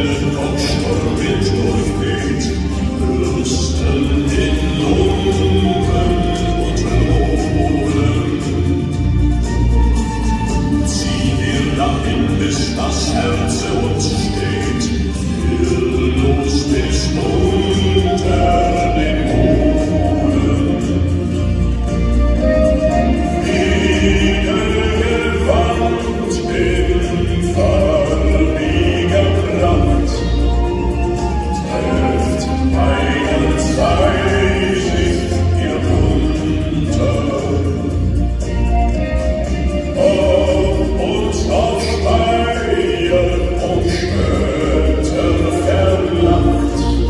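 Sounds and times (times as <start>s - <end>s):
man singing: 0.0s - 47.0s
piano: 0.0s - 47.0s.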